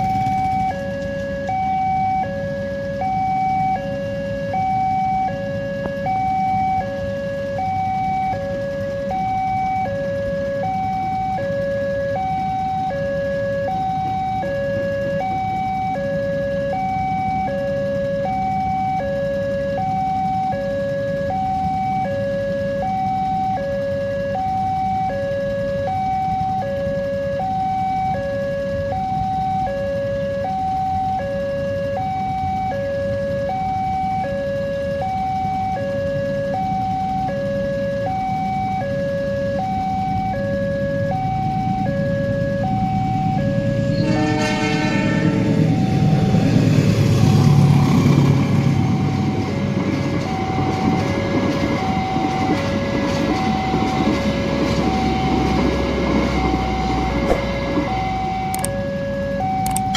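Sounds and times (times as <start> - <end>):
road traffic hum: 0.0 - 59.9
two-tone crossing warning alarm: 0.0 - 59.9.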